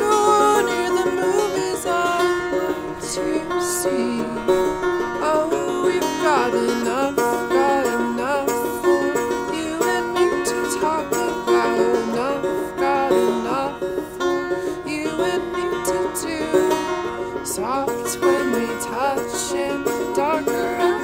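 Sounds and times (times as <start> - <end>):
banjo picking folk tune: 0.0 - 21.0.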